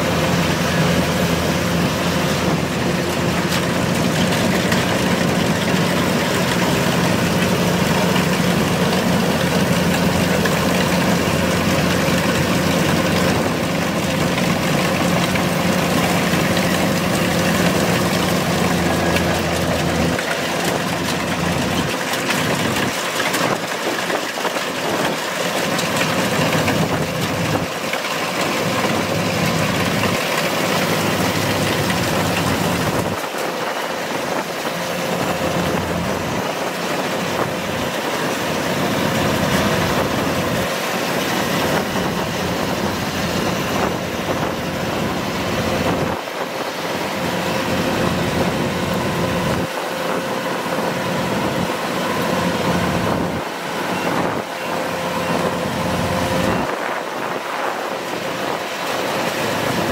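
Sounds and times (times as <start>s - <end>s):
diesel engine running under load: 0.0s - 59.9s
machinery clatter and whir: 0.0s - 59.9s.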